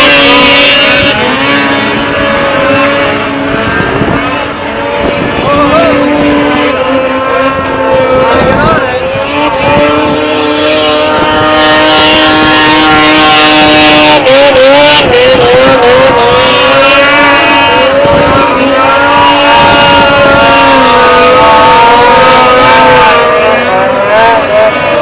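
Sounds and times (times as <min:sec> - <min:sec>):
snowmobile engine at high revs: 0:00.0 - 0:25.0.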